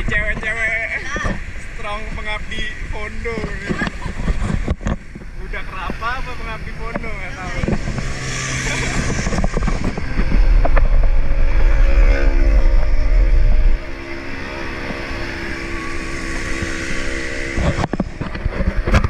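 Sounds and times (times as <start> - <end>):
traffic engine hum: 0.0 - 19.0
wind buffeting microphone: 0.0 - 19.0.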